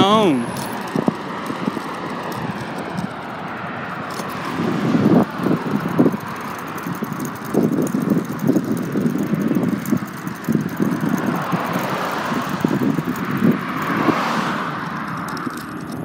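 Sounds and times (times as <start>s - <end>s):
car passing: 0.0s - 16.0s
wind buffeting microphone: 0.0s - 16.0s.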